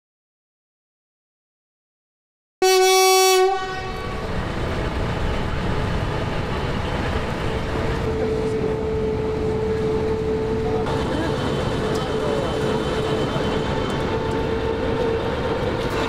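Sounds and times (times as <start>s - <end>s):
train rumbling past: 2.6s - 16.0s.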